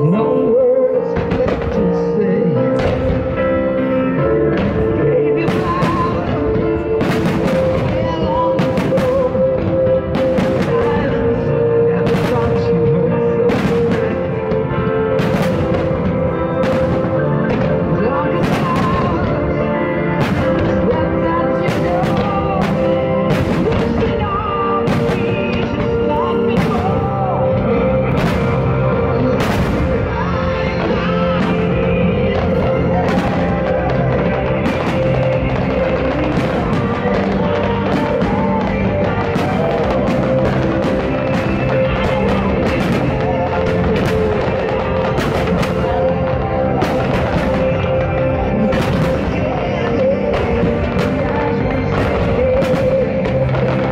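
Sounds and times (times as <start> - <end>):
music with singing: 0.0 - 53.9
fireworks bursting with bangs: 1.0 - 53.9.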